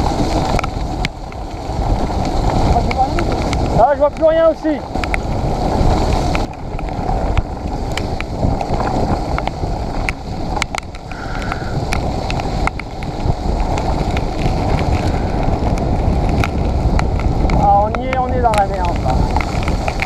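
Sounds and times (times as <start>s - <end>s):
heavy rain: 0.0s - 20.0s
tyres rumbling on wet trail: 0.0s - 20.0s
wind buffeting microphone: 0.0s - 20.0s
sharp ticks and knocks: 0.4s - 4.3s, 4.9s - 5.3s, 6.1s - 20.0s.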